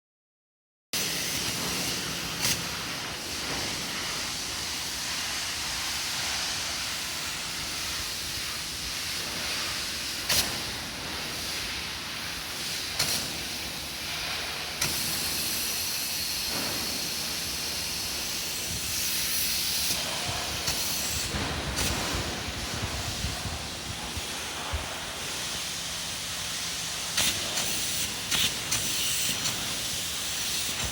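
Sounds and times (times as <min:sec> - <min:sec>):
spray foam gun hissing: 0:01.0 - 0:30.9.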